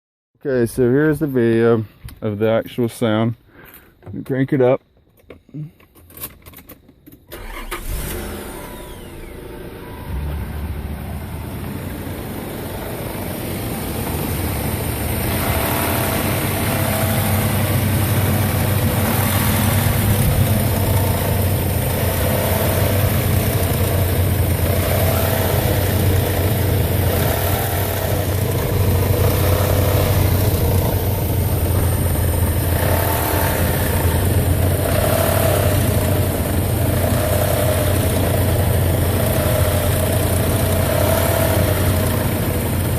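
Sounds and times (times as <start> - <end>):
car engine starting and running: 5.1 - 42.9.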